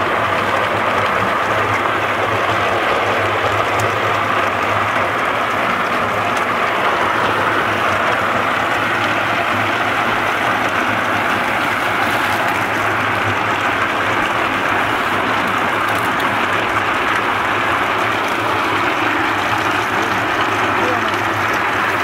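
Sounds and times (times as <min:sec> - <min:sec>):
low motor hum: 0:00.0 - 0:22.0
walnuts churning in drum: 0:00.0 - 0:22.0.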